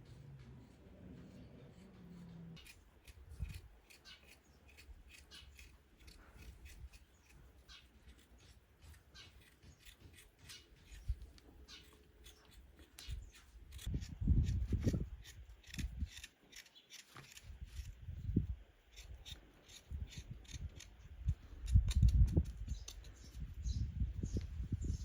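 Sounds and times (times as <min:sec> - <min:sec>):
rustles: 0:00.0 - 0:25.0.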